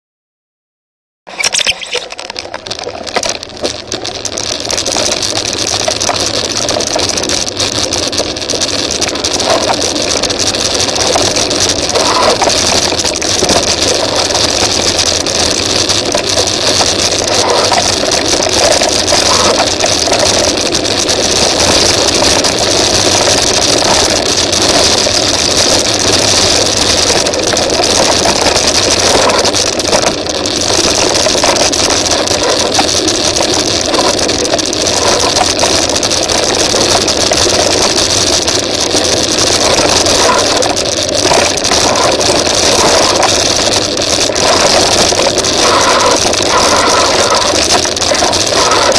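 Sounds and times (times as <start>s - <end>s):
tyres on loose gravel: 1.3s - 48.9s
wind on microphone: 9.2s - 48.9s.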